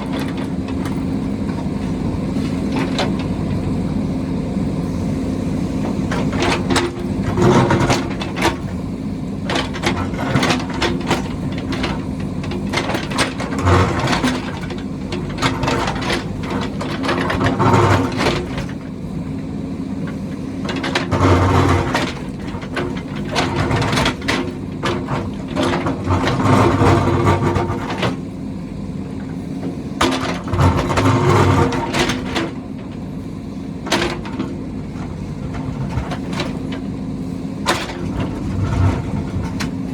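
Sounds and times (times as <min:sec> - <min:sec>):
clanks and knocks of digging: 0:00.0 - 0:04.2, 0:05.7 - 0:39.9
backhoe diesel engine running: 0:00.0 - 0:39.9.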